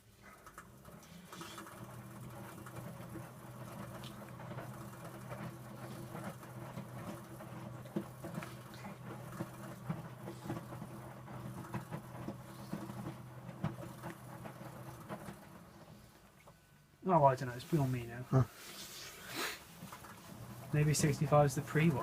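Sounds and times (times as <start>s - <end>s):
washing machine motor hum: 0.0s - 22.0s
wet laundry tumbling in drum: 0.2s - 16.4s, 19.7s - 22.0s.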